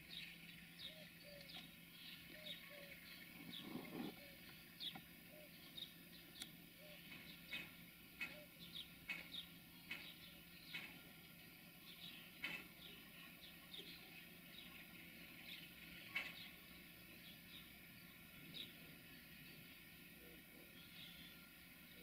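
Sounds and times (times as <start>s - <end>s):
faint low hum: 0.0s - 22.0s
small birds chirping: 0.0s - 22.0s.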